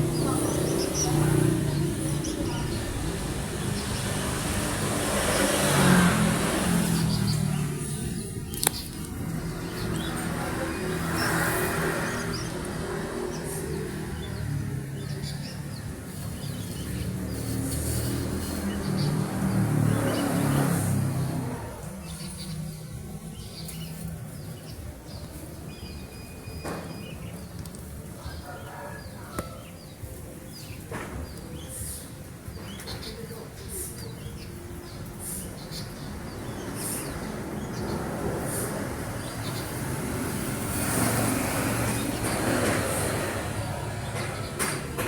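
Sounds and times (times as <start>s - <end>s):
vehicle engine passing: 0.0s - 25.5s, 33.9s - 45.0s.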